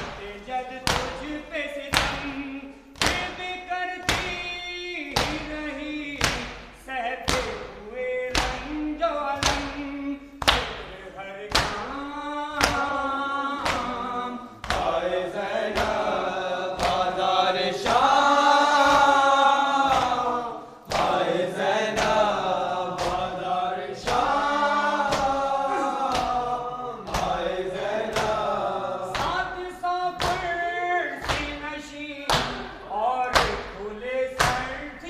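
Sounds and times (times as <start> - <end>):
men chanting a lament: 0.0 - 35.0
rhythmic chest-beating strikes: 0.0 - 35.0.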